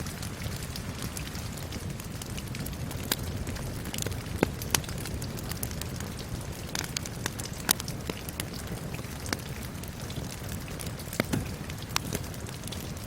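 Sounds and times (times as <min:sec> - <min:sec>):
rain hiss: 0:00.0 - 0:13.0
wood fire crackling and popping: 0:00.0 - 0:13.0.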